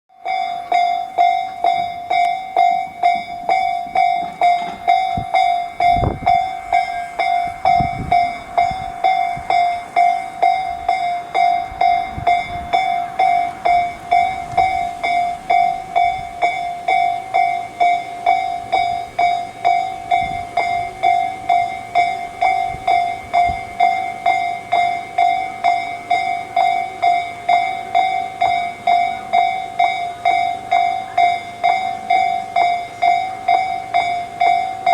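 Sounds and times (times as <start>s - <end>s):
level-crossing warning bell: 0.1s - 34.9s.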